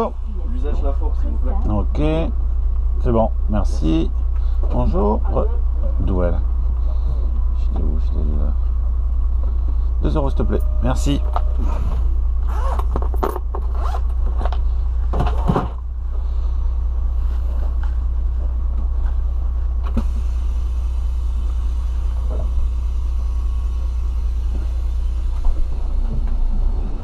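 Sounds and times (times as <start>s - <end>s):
coach engine droning: 0.0s - 27.0s.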